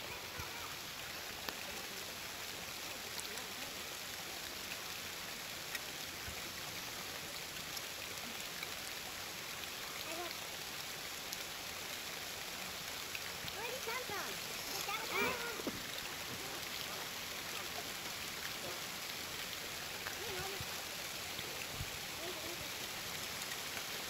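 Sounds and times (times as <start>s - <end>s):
steady rain hiss: 0.0s - 24.0s
light drips and taps: 0.1s - 24.0s.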